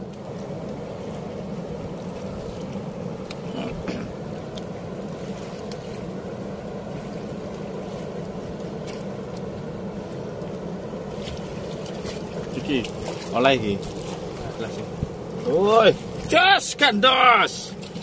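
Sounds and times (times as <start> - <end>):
river current rushing against hull: 0.0 - 18.0.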